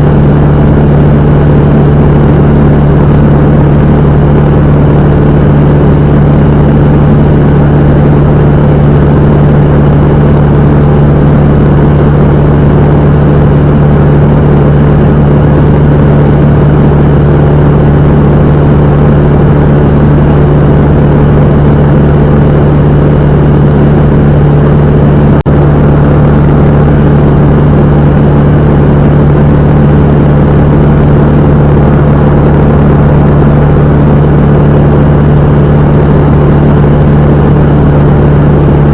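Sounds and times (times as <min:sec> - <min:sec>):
propeller plane engine droning: 0:00.0 - 0:38.9.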